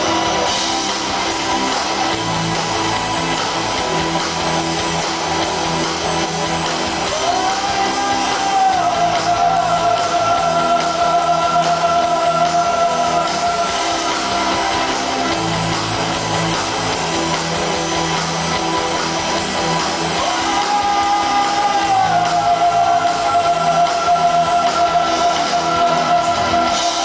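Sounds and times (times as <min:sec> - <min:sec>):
live rock band: 0:00.0 - 0:27.0.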